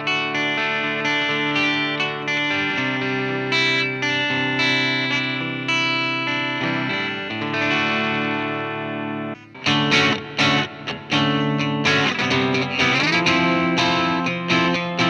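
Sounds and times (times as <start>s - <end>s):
electric guitar strumming chords: 0.0s - 15.0s.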